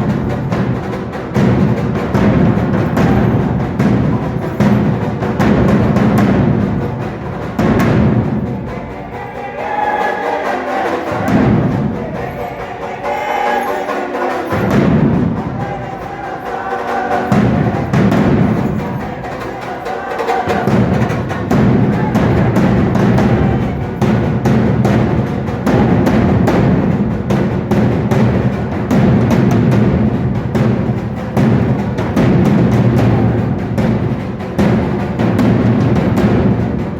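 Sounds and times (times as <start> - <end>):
drums beating fast rhythm: 0.0 - 36.9
higher pitched drum line: 0.0 - 36.9.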